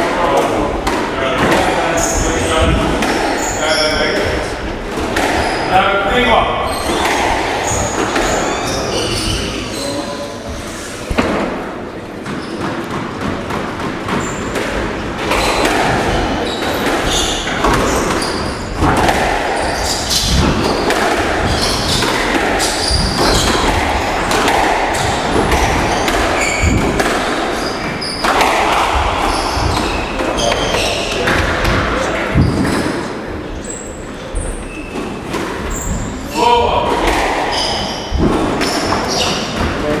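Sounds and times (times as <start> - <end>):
squash ball knocks echoing: 0.0 - 9.6, 11.1 - 33.4, 35.0 - 40.0.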